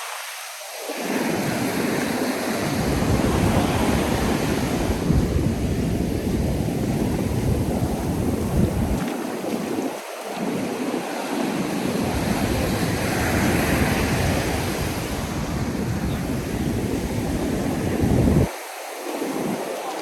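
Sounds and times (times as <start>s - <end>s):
ocean surf breaking on sand: 0.0s - 20.0s
wind buffeting microphone: 1.0s - 19.8s.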